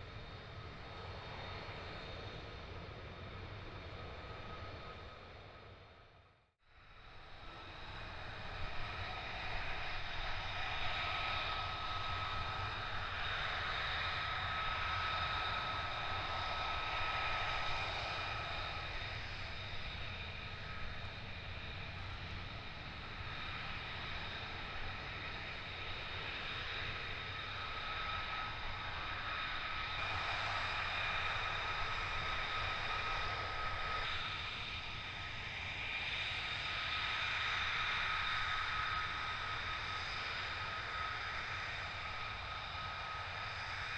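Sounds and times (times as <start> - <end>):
jet engine whine and rumble: 0.0 - 43.9.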